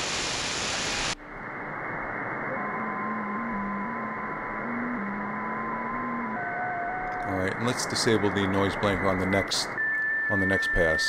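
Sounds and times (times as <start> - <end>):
radio band noise hiss: 0.0 - 6.1, 7.1 - 11.0
faint digital signal tones: 1.1 - 11.0.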